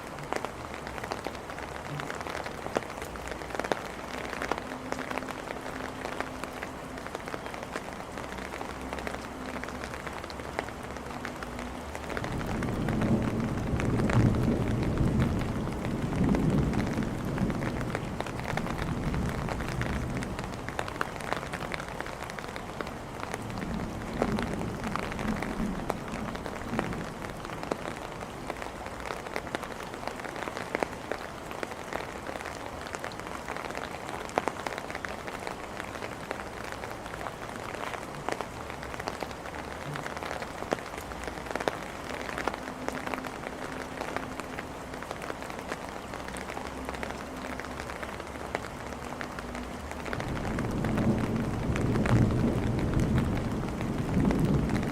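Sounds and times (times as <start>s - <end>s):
rain on hard surfaces: 0.0s - 54.9s
raindrops pattering: 0.0s - 54.9s.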